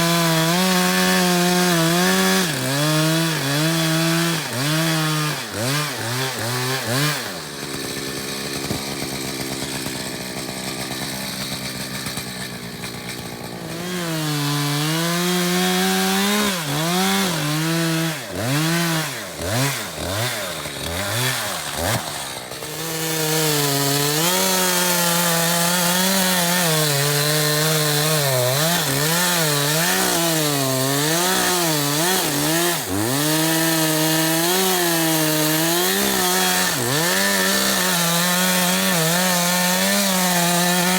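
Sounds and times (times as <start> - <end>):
chainsaw revving and cutting: 0.0 - 40.9.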